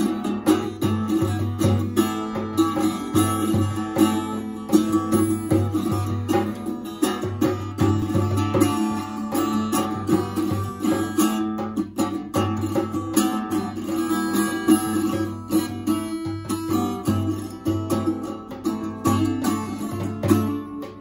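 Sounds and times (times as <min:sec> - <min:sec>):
acoustic guitar playing: 0:00.0 - 0:21.0
djembe hand drum beating: 0:00.0 - 0:21.0.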